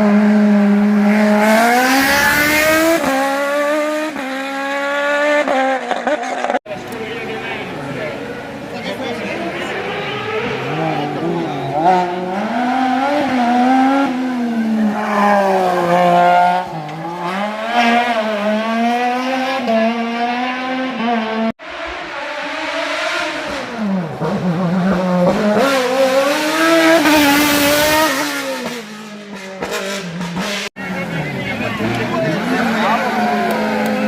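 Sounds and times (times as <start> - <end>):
race car engine accelerating: 0.0 - 34.0.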